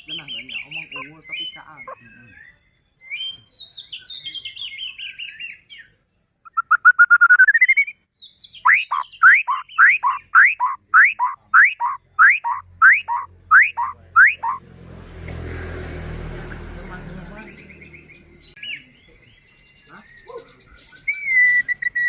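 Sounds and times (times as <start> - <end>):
bird singing trills and whistles: 0.0 - 14.6, 16.4 - 22.0.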